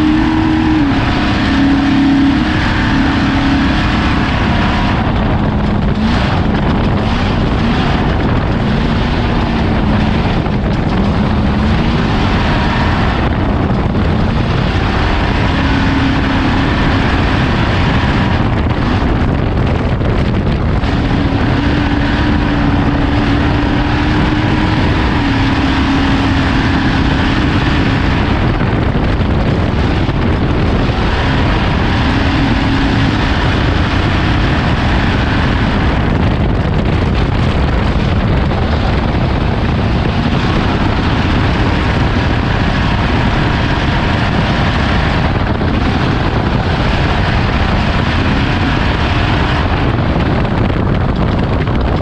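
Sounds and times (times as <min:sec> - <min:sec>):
race vehicle engine at speed: 0:00.0 - 0:52.0
wind rush on microphone: 0:00.0 - 0:52.0.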